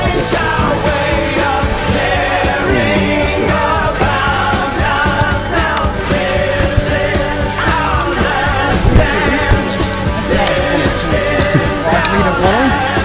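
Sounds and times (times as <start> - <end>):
loud rock music: 0.0 - 13.0
person singing: 0.0 - 13.0.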